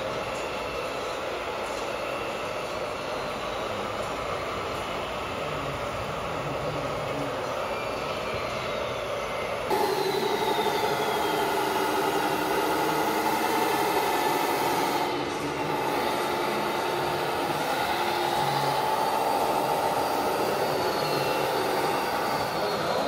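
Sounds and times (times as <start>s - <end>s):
model machine motors whining: 0.0s - 23.0s.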